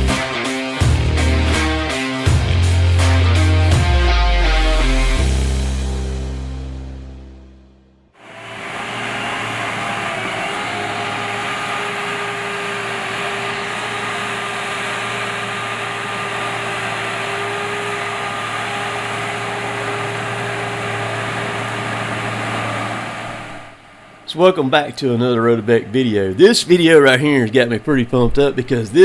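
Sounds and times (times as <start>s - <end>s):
heavy machine engine running: 0.0s - 6.3s, 8.2s - 28.4s.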